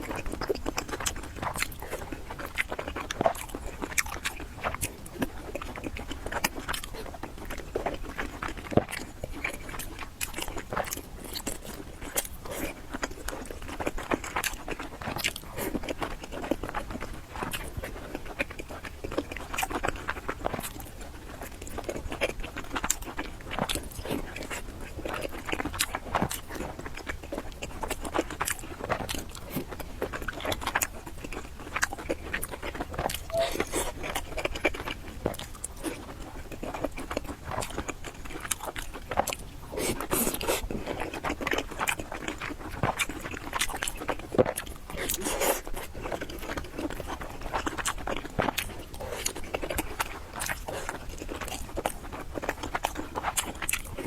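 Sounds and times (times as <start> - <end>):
person chewing and smacking: 0.0 - 54.0.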